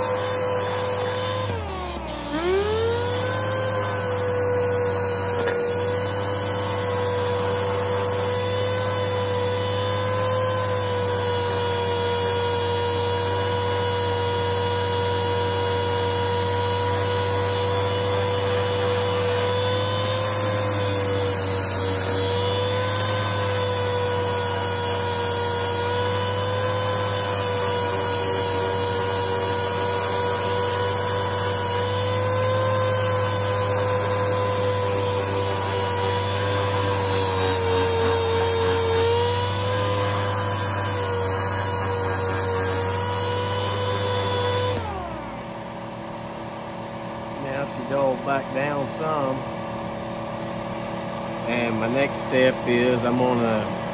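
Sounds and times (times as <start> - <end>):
sander sanding metal: 0.0 - 53.9.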